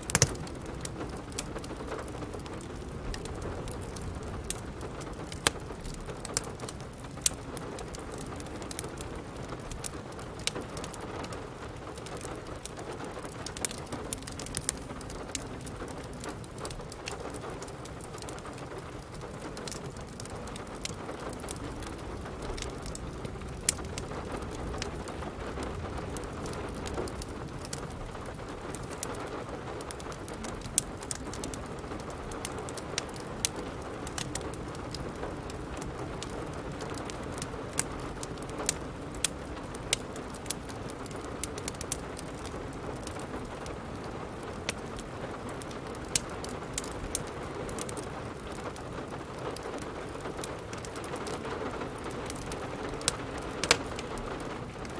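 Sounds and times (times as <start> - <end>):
steady rain: 0.0 - 54.9
wood fire crackling: 0.0 - 54.9.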